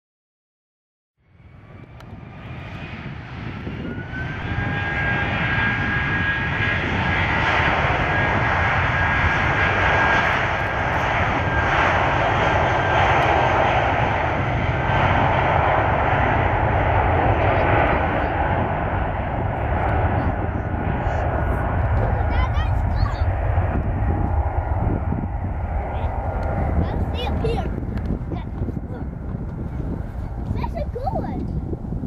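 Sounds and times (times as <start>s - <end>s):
jet engines at takeoff: 1.2s - 32.0s.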